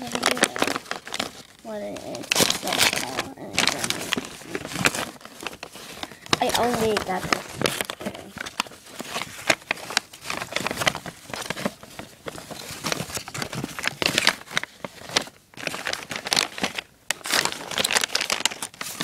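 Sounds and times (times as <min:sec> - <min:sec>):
paper and plastic crinkling: 0:00.0 - 0:19.0.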